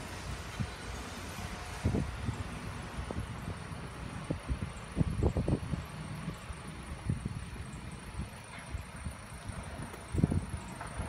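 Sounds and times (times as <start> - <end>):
excavator engine rumble: 0.0 - 11.0.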